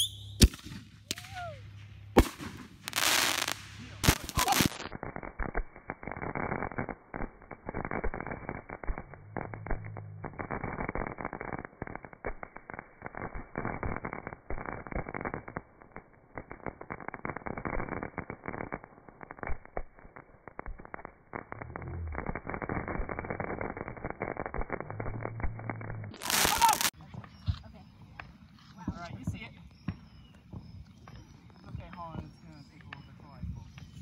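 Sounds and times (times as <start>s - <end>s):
fireworks crackling and popping: 0.0s - 34.0s.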